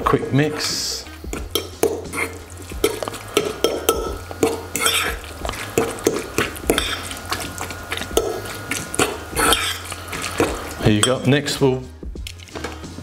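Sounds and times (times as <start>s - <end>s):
utensil stirring wet mixture: 0.0s - 13.0s.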